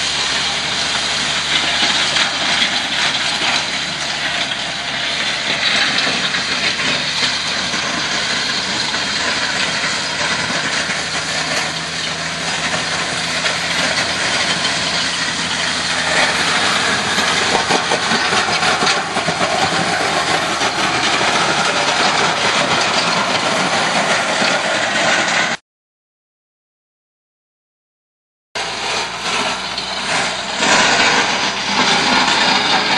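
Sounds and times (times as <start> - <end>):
plow blade scraping dirt: 0.0 - 25.6, 28.6 - 32.9
truck engine running: 0.0 - 25.6, 28.6 - 32.9.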